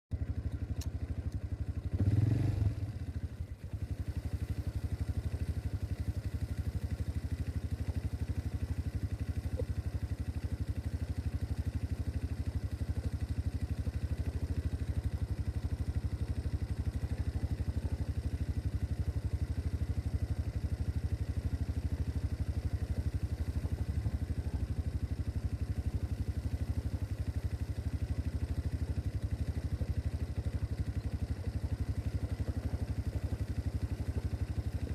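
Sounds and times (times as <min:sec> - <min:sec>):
atv engine idling: 0:00.1 - 0:34.9.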